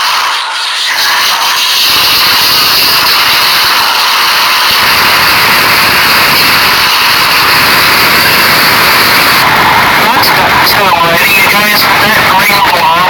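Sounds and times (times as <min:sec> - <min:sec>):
loud steady hiss: 0:00.0 - 0:12.9.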